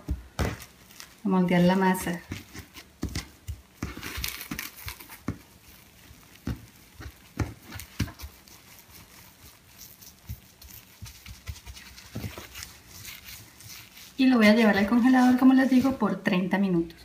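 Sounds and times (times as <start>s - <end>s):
plastic wrap crinkling: 0.0s - 16.3s.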